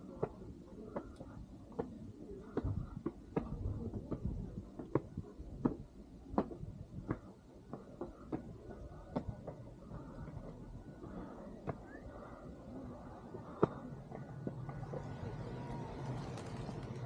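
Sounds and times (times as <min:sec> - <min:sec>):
low background rumble: 0:00.2 - 0:17.0.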